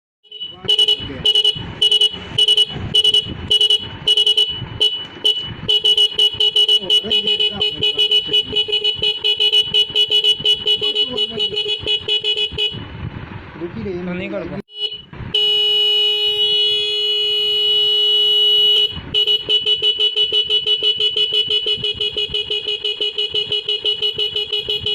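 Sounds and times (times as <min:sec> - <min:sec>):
motorcycle horn beeping: 0:00.2 - 0:13.0, 0:14.7 - 0:24.9.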